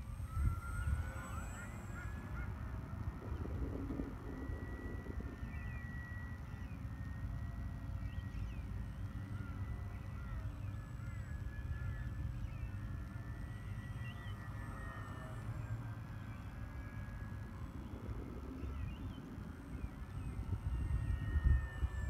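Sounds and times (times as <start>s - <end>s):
wind on microphone: 0.0s - 13.3s, 16.5s - 22.0s
model plane motor whine: 0.0s - 22.0s
small birds chirping: 0.2s - 22.0s.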